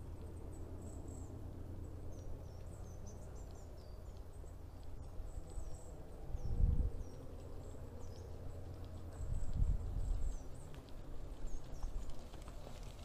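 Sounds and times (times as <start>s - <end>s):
small birds chirping: 0.0s - 13.0s
wind rumble on microphone: 0.0s - 13.0s.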